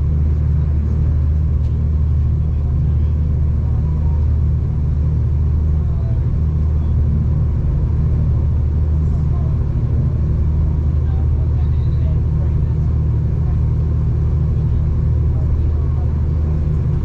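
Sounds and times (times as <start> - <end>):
train rumbling from inside carriage: 0.0 - 17.0.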